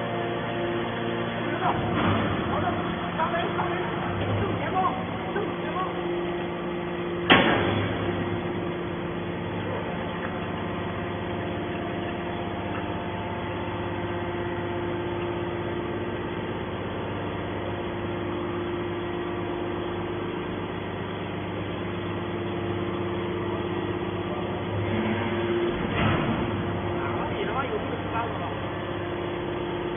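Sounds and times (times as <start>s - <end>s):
hydraulic motor and pump humming: 0.0s - 29.9s.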